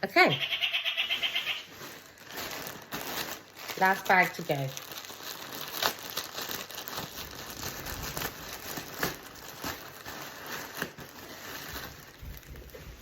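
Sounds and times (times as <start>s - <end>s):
plastic bag crinkling: 1.5s - 13.0s.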